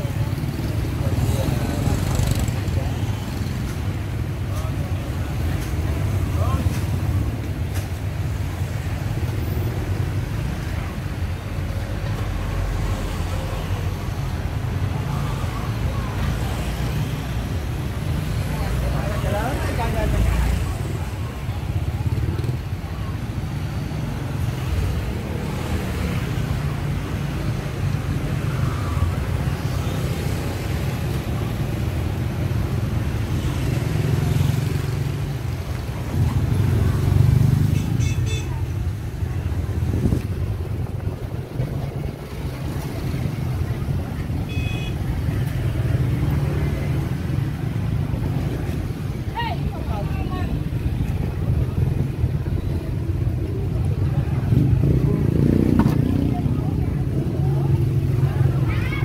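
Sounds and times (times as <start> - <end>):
street background rumble: 0.0 - 59.0.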